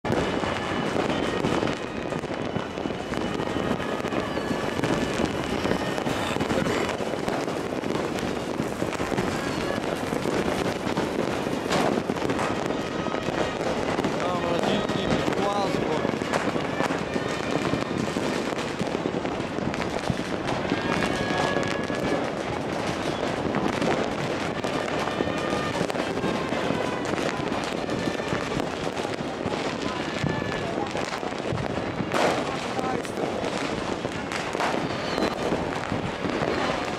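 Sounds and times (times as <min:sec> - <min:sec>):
fireworks crackling and popping: 0:00.0 - 0:36.9.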